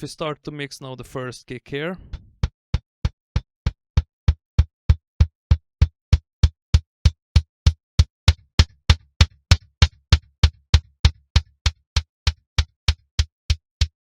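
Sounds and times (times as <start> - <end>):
kick drum hits: 2.0 - 14.0.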